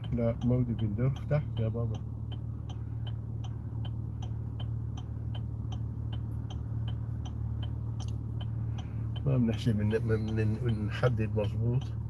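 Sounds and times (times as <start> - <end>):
car running on road hum: 0.0 - 12.0
turn signal ticking: 0.0 - 12.0.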